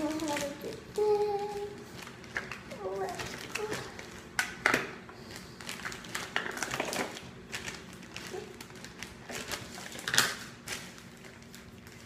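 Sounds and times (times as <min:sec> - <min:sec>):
plastic bag crinkling and rustling: 0:00.0 - 0:12.0.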